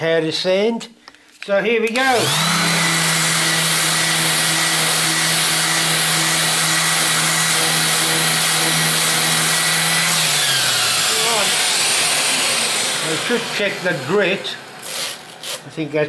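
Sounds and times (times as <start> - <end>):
orbital sander running: 1.9 - 15.6.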